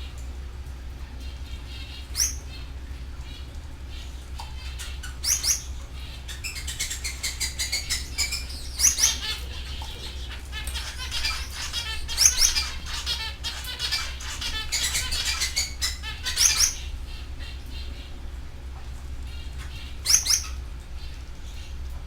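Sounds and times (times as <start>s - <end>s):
canaries singing: 0.0s - 22.0s
steady low hum: 0.0s - 22.0s.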